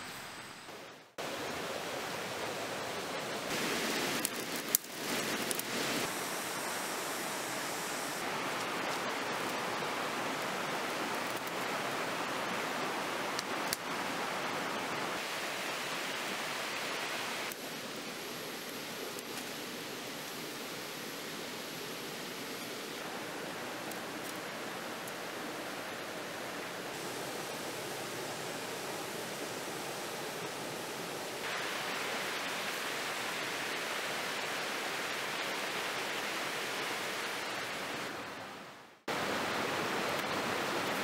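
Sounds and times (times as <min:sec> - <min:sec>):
forest stream rushing: 0:00.0 - 0:41.0.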